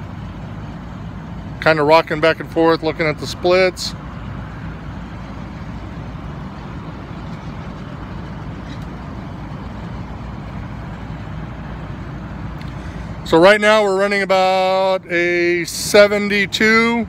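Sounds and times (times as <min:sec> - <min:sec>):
compressor hum: 0:00.0 - 0:17.0
condenser fan air rush: 0:00.0 - 0:17.0.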